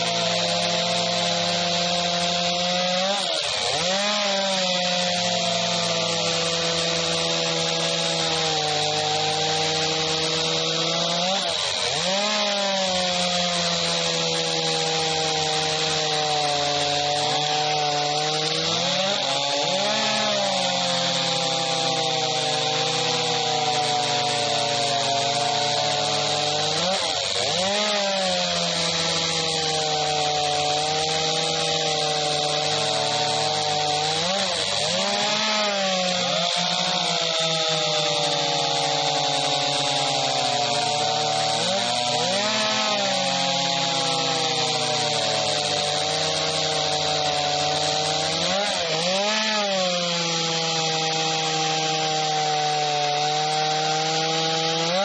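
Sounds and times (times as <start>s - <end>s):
chains rasping through wood: 0.0s - 55.0s
chainsaw engine whine: 0.0s - 55.0s.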